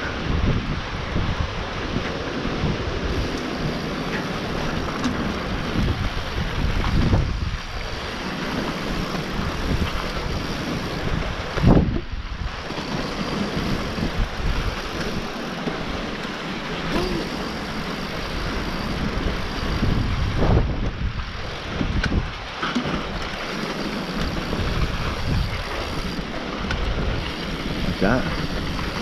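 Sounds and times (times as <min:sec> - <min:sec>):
wind over microphone: 0:00.0 - 0:29.0
bike tyres on dirt trail: 0:02.0 - 0:29.0.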